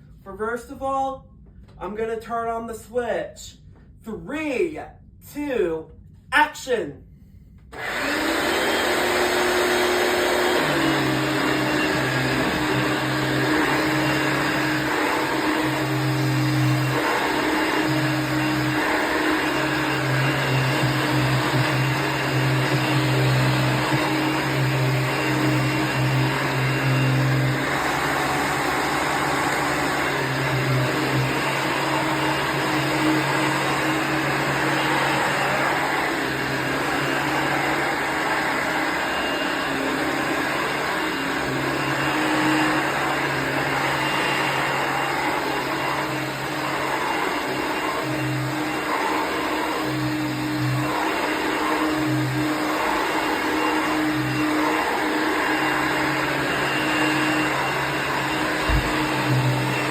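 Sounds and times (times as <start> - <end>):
upright vacuum cleaner running: 7.7 - 59.9.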